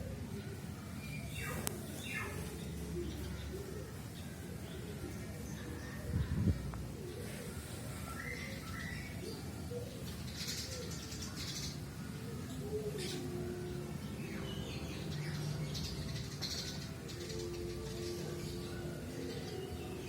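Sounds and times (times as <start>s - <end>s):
low cooing of doves: 0.0s - 14.1s, 16.4s - 20.0s
birds chirping: 0.2s - 20.0s.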